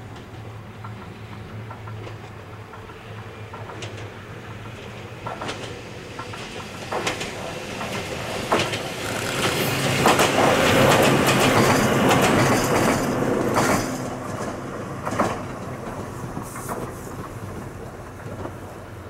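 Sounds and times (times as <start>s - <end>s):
electric train passing: 0.0s - 19.0s
wheels clacking over rail joints: 0.0s - 19.0s.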